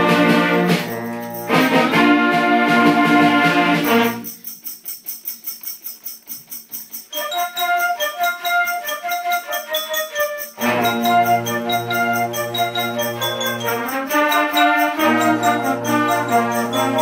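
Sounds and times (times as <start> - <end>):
light percussion beat: 0.0 - 17.0.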